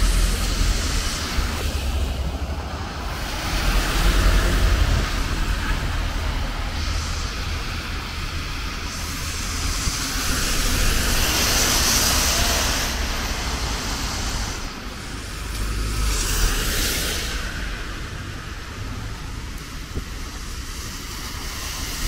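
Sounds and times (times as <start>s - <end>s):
low rumble of engines: 0.0s - 22.0s
tyre hiss on wet road: 0.0s - 22.0s.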